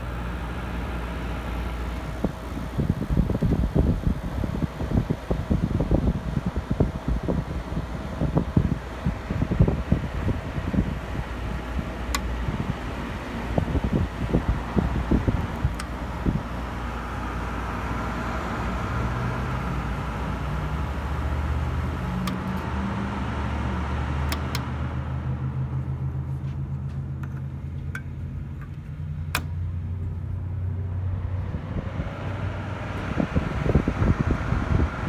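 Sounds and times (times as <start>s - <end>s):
compressor humming: 0.0s - 35.0s
fan air rushing: 0.0s - 35.0s.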